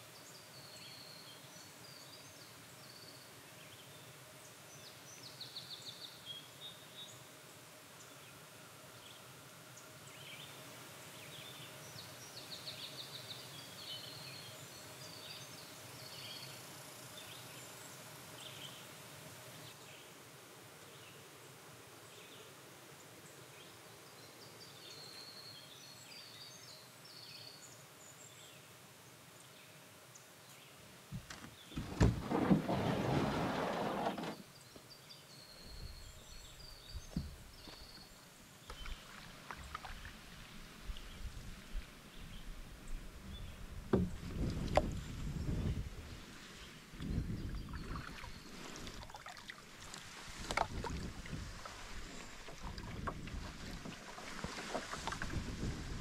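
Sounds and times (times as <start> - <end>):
songbirds singing: 0.0 - 7.3, 8.0 - 18.9, 22.1 - 56.0
faint steady hiss: 0.0 - 56.0.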